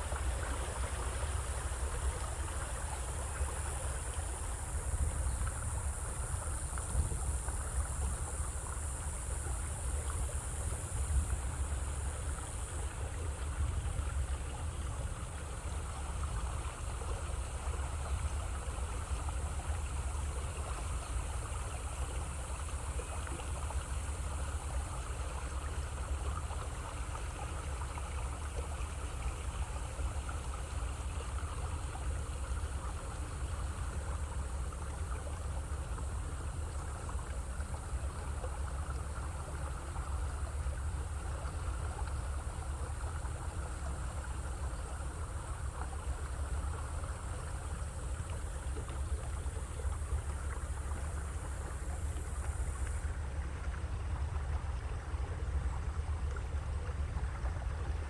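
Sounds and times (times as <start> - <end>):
low boat rumble: 0.0 - 58.0
water rushing: 0.0 - 58.0.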